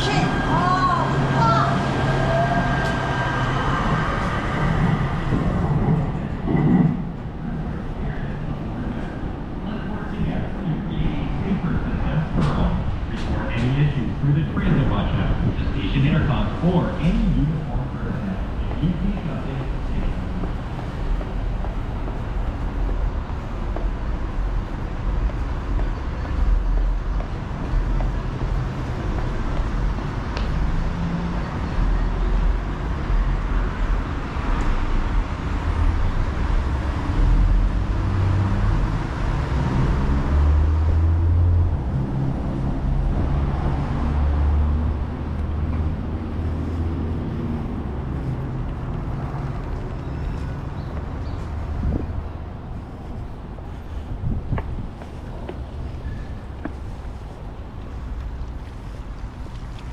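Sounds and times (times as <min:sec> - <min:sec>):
low rumble of road traffic: 0:00.0 - 0:59.9.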